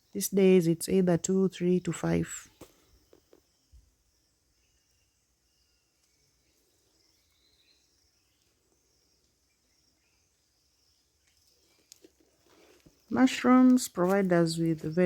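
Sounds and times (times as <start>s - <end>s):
faint bird chirps: 0.0s - 15.0s
insects chirping: 0.0s - 15.0s.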